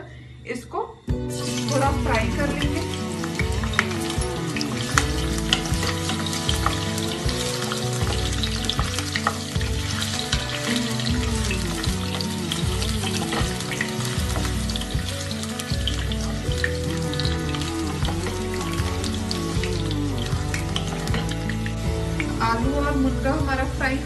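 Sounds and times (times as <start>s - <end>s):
pods frying in hot oil: 1.3s - 24.0s.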